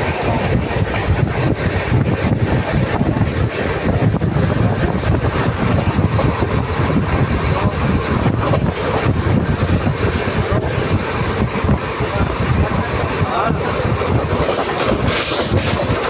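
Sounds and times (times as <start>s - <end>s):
train wheels rumbling on track: 0.0s - 16.0s
wind buffeting microphone: 0.0s - 16.0s.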